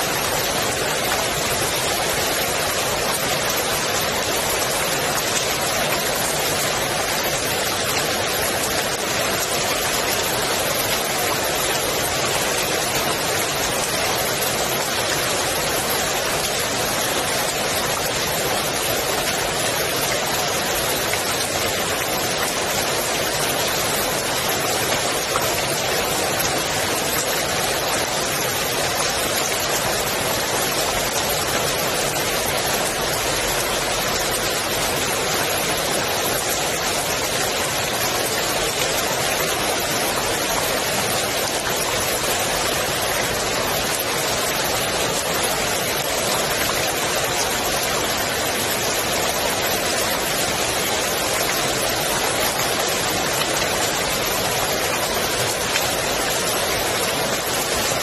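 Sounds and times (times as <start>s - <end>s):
rain falling on pool water: 0.0s - 58.0s.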